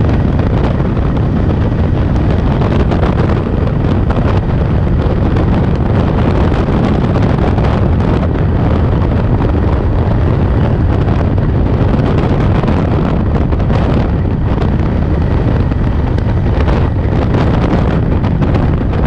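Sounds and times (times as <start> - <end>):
motorcycle engine: 0.0 - 19.0
road noise: 0.0 - 19.0
wind rushing over microphone: 0.0 - 19.0.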